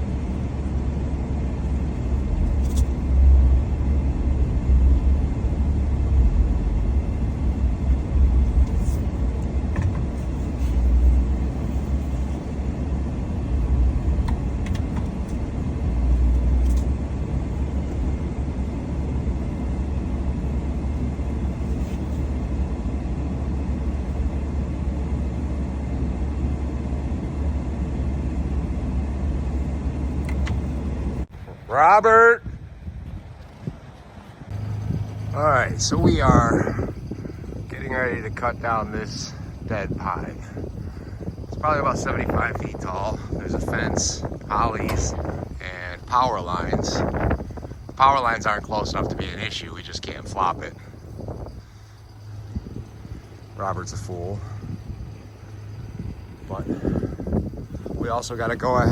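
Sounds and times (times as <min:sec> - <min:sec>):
vehicle engine and road rumble: 0:00.0 - 0:58.9.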